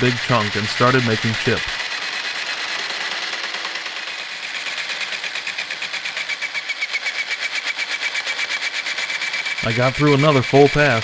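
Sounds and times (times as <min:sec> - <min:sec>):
electric drill cutting aluminum: 0:00.0 - 0:11.0.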